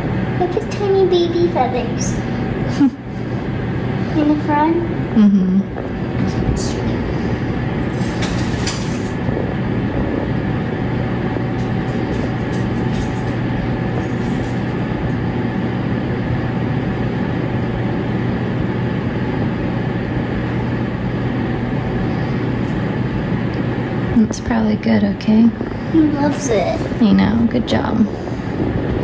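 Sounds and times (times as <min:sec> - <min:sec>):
low hum: 0:00.0 - 0:29.0
mechanical rushing drone: 0:01.4 - 0:29.0.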